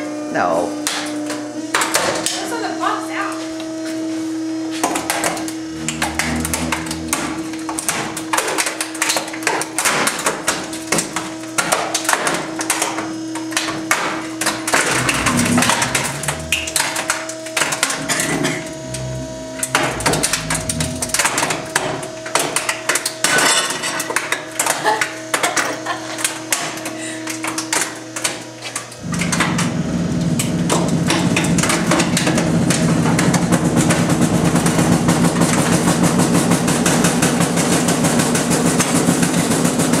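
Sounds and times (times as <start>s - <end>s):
compactor motor hum: 3.5s - 9.6s, 11.9s - 23.2s, 24.4s - 40.0s.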